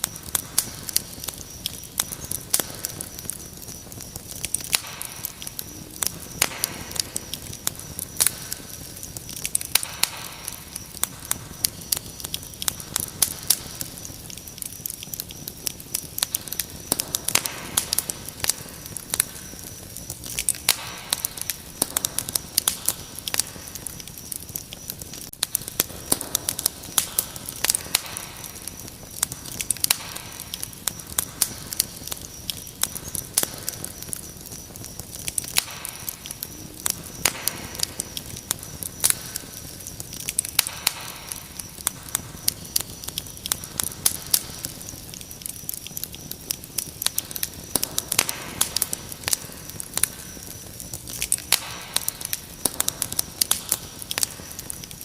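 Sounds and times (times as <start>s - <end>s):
crickets chirping: 0.0s - 55.0s
wood fire crackling and popping: 0.0s - 55.0s.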